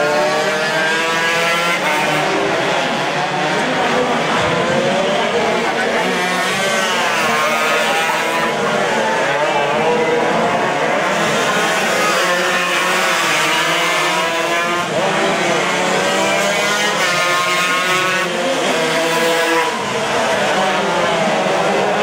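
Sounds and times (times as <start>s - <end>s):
motorcycles revving at high revs: 0.0s - 22.0s.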